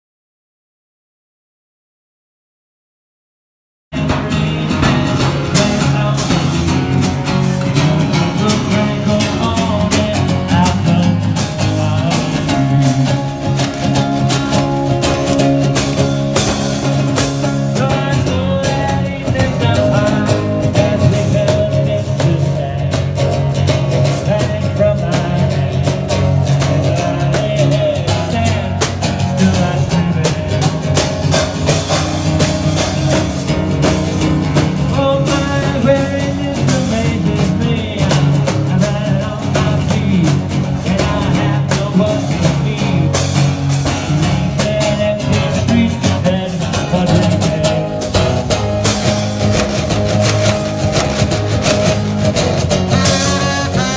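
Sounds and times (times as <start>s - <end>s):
drums: 3.9s - 53.9s
strummed guitar: 3.9s - 53.9s.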